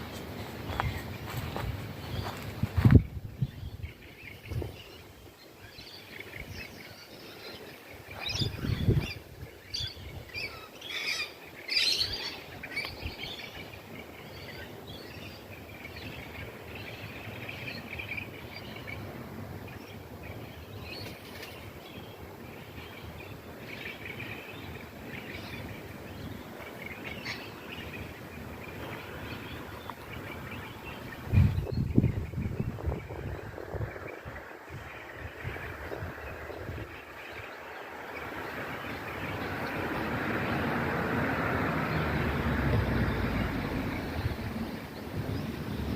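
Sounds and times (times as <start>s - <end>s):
birds chirping: 0.0s - 45.9s
steady low background noise: 0.0s - 45.9s.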